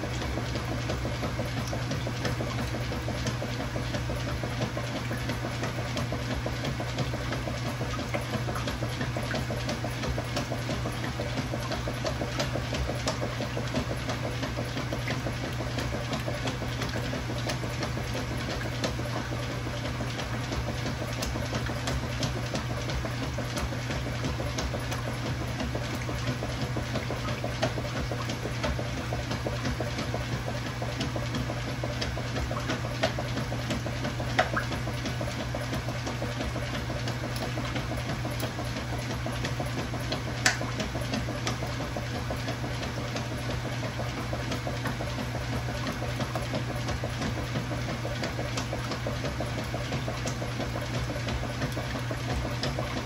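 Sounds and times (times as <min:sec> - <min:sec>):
washing machine running: 0:00.0 - 0:53.0.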